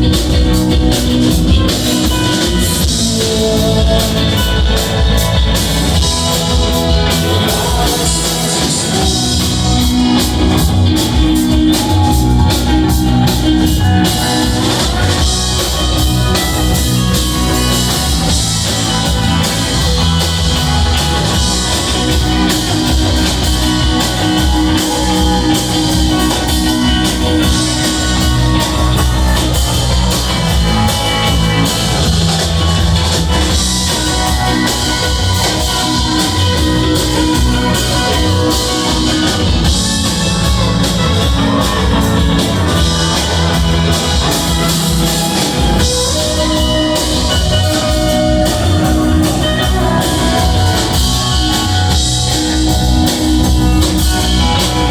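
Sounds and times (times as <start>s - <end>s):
drum kit beat: 0.0s - 54.9s
electric guitars: 0.0s - 54.9s.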